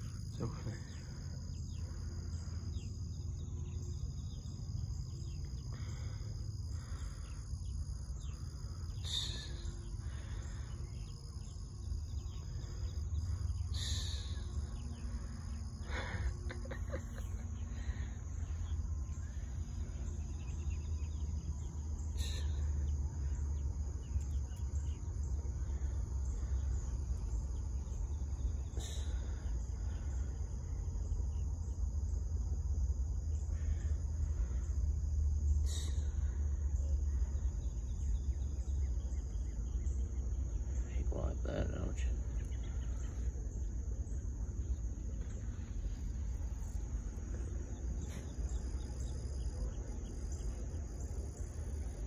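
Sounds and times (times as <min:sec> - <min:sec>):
high insect drone: 0:00.0 - 0:52.0.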